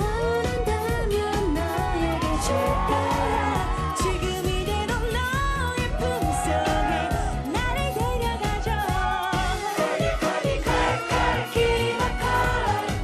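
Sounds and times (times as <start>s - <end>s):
women singing into microphones: 0.0s - 13.0s.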